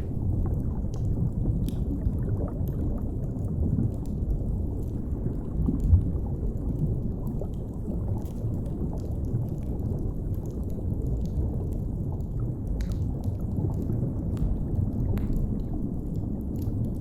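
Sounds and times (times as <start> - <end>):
fire crackling and popping: 0.0 - 17.0
low underwater rumble: 0.0 - 17.0.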